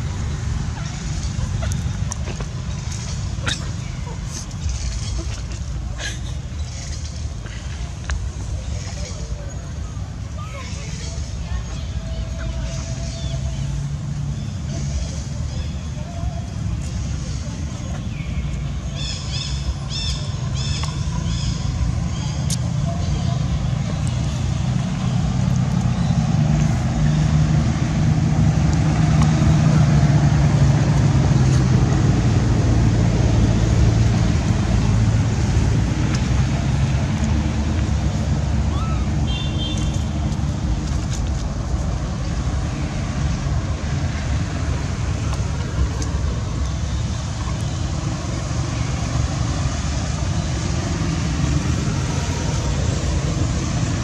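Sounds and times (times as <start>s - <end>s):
low engine rumble: 0.0s - 54.0s.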